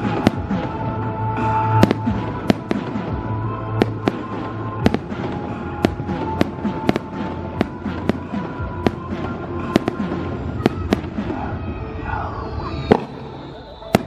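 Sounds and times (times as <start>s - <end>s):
fireworks bangs: 0.0s - 11.8s, 12.8s - 14.0s
background music with held notes: 0.0s - 14.0s.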